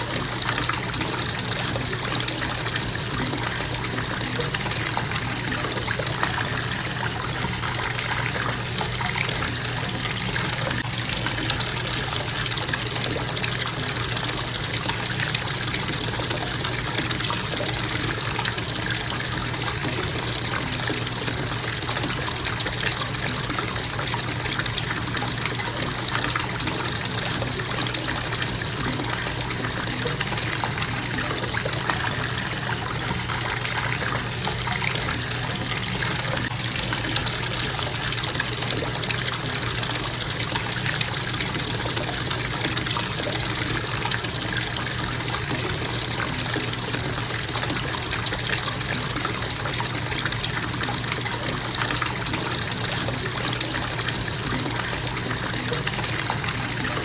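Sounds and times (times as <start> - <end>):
bathtub faucet running: 0.0 - 57.0
water splashing into tub: 0.0 - 57.0.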